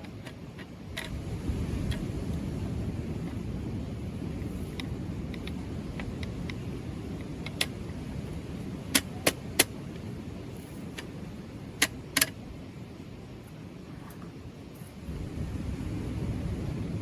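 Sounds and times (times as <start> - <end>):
strong wind: 0.0 - 17.0
surf rumbling: 0.0 - 17.0.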